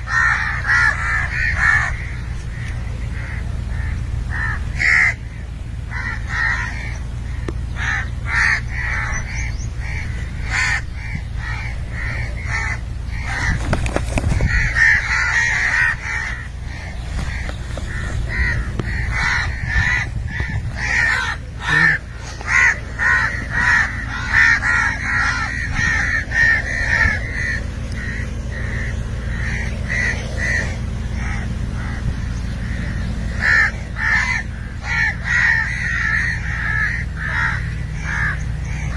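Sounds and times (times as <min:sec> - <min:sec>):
birds calling: 0:00.0 - 0:38.9
steady low hum: 0:00.0 - 0:38.9.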